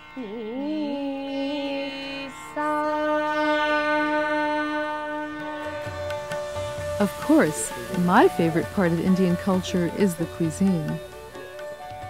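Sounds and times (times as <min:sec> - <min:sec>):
woman singing classical vocals: 0:00.0 - 0:05.8, 0:07.0 - 0:11.1
plucked tanpura drone: 0:00.0 - 0:12.0.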